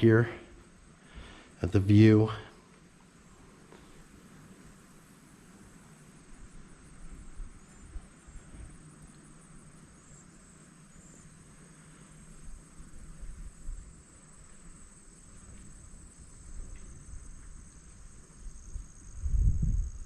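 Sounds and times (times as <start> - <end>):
crickets chirping chorus: 0.0 - 20.0.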